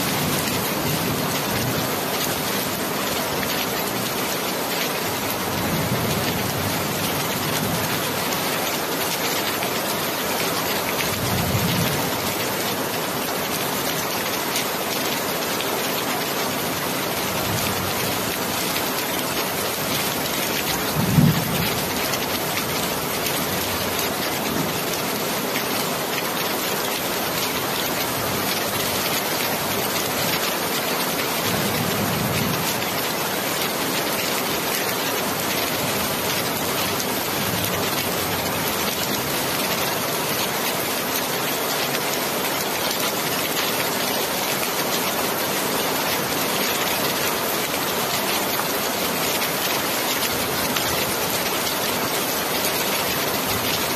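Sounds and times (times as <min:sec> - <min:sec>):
heavy rain pattering: 0:00.0 - 0:53.9.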